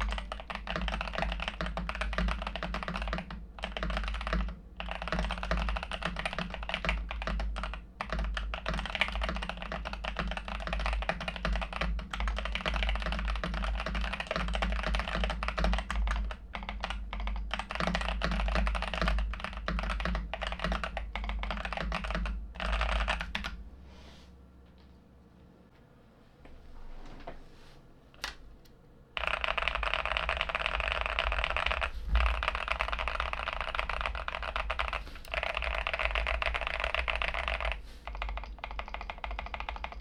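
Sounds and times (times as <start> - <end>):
mechanical keyboard typing: 0.0 - 23.6, 29.2 - 40.0.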